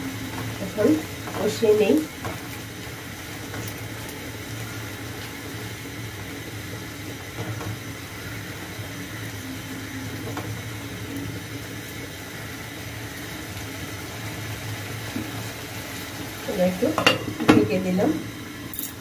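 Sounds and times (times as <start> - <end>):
masala sizzling in oil: 0.0 - 19.0.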